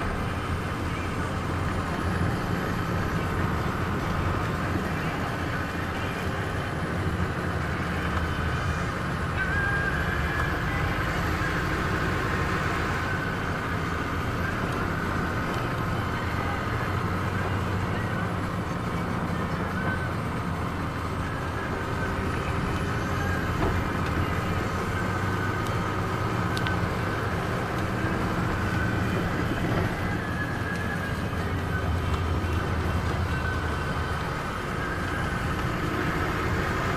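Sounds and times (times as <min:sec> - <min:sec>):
car engine and tyre rumble: 0:00.0 - 0:36.9.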